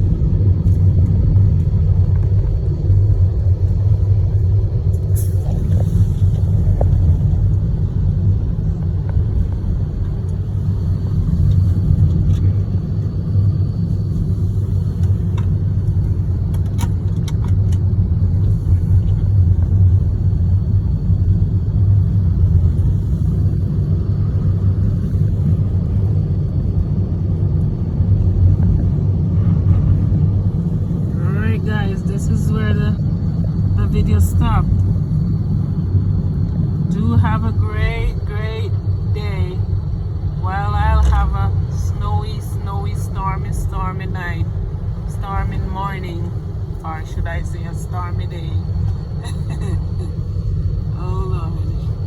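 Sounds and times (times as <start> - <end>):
car interior engine and road noise: 0.0 - 52.0.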